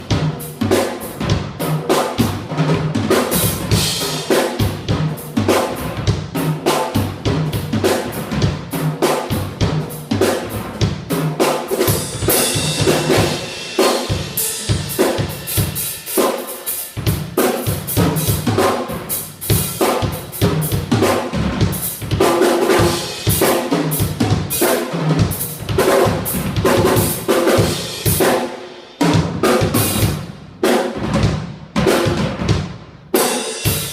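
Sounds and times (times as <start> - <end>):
drum-driven music with bass: 0.0 - 33.9.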